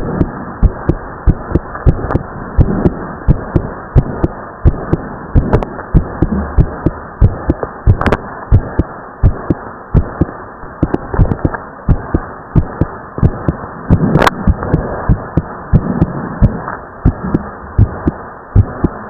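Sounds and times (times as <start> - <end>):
constant hiss: 0.0 - 19.0
heartbeat thumps: 0.0 - 19.0.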